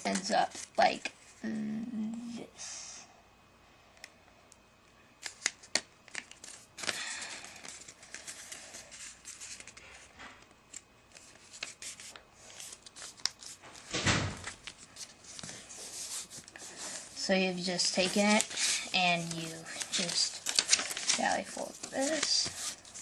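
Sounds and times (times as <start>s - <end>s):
paper rustling and creasing: 0.0s - 1.5s, 5.2s - 23.0s.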